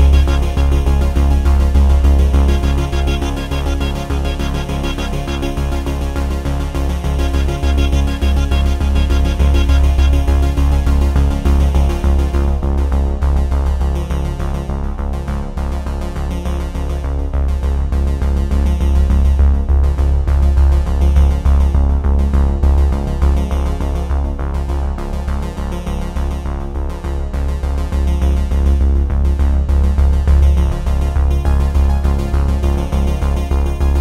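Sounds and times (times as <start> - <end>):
electronic music with synthesizer: 0.0 - 26.1, 27.2 - 34.0.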